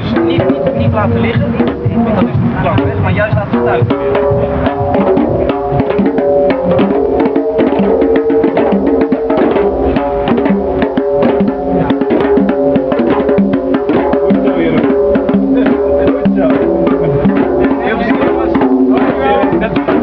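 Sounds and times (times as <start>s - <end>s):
hand drums playing fast rhythm: 0.0s - 20.0s.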